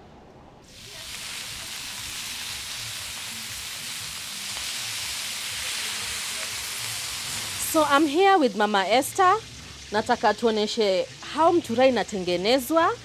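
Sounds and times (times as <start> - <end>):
sausage sizzling on a grill: 0.7 - 13.0.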